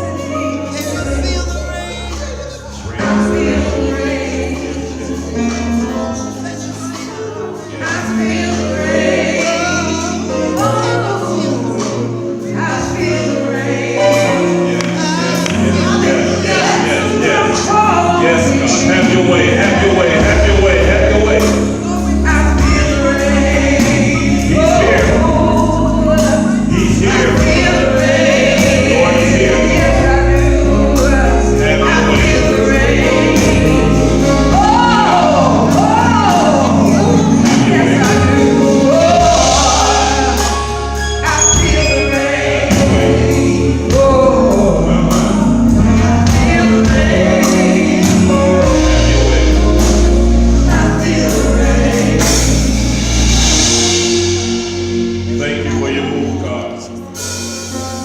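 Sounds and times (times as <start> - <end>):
gospel choir with band: 0.0 - 58.0.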